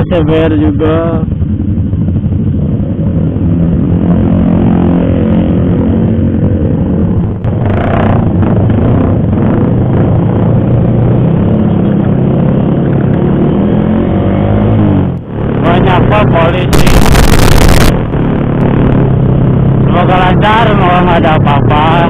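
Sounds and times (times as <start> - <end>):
motorcycle engines running: 0.0 - 22.0.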